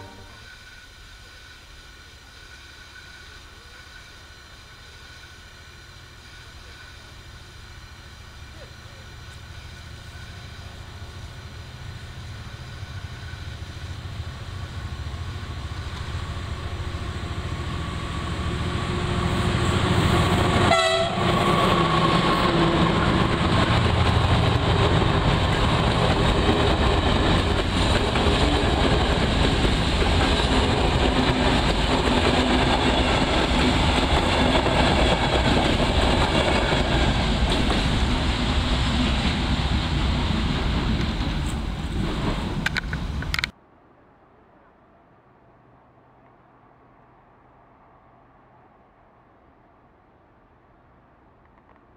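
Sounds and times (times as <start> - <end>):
train wheels rumbling on rails: 0.0 - 43.6.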